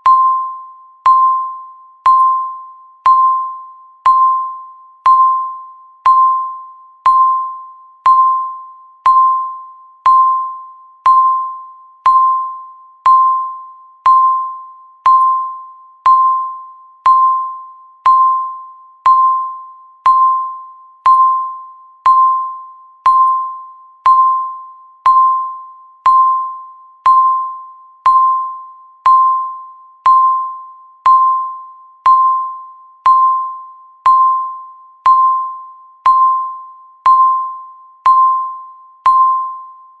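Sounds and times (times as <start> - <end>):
electronic timer beeps: 0.0 - 40.0.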